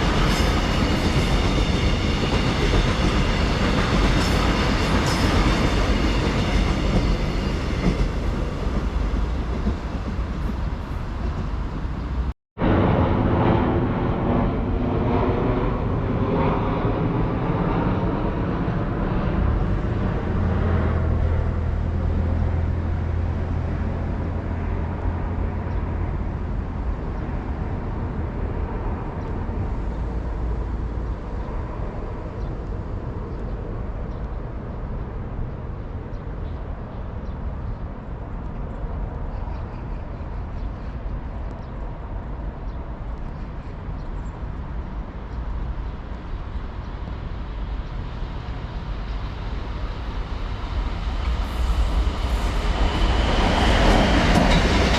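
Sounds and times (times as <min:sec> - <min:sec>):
road traffic: 0:00.0 - 0:12.4, 0:16.8 - 0:54.9
trains rumbling on railway: 0:00.0 - 0:54.9.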